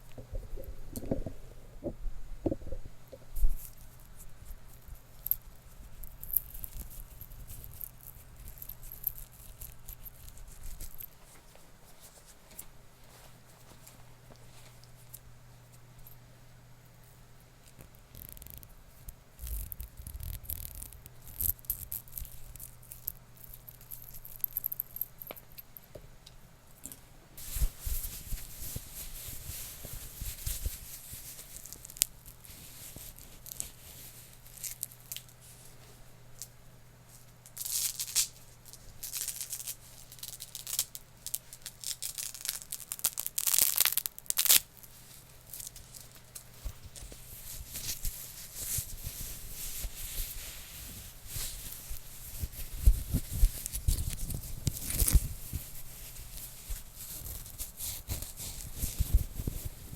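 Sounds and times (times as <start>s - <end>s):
objects scratching and rustling: 0.0s - 15.8s, 17.6s - 25.7s, 26.9s - 36.0s, 37.1s - 59.9s.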